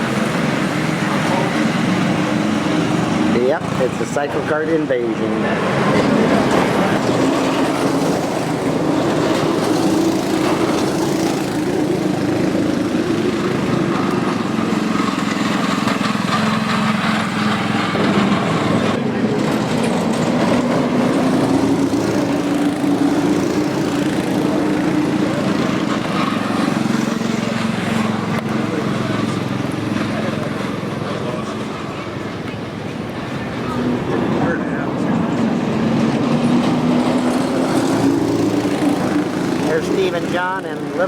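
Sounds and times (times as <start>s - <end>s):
small kart engines running: 0.0s - 41.0s.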